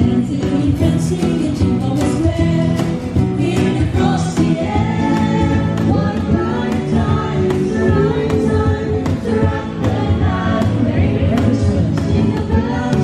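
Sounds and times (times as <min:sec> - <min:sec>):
acoustic guitar: 0:00.0 - 0:13.0
vocal group singing: 0:00.0 - 0:13.0.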